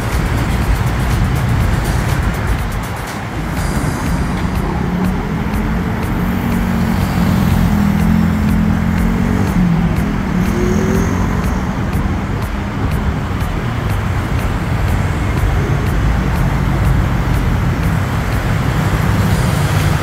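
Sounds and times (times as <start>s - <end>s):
road traffic passing: 0.0s - 20.0s
vehicle engine hum: 0.0s - 20.0s.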